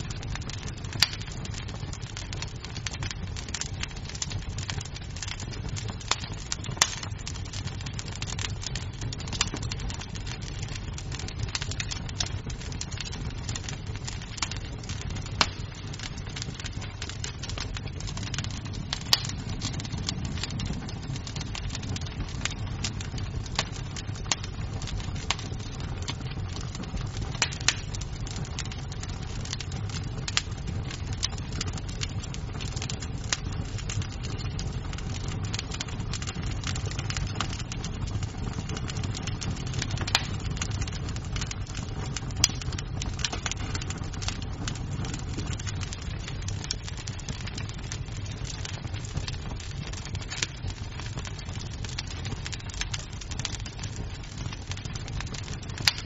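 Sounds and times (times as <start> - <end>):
burning wood popping: 0.0 - 56.0
fire flames rumbling: 0.0 - 56.0.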